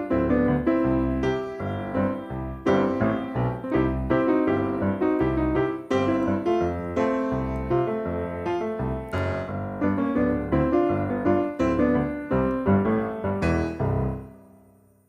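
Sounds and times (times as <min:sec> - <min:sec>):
keyboard playing over bass line: 0:00.0 - 0:14.5.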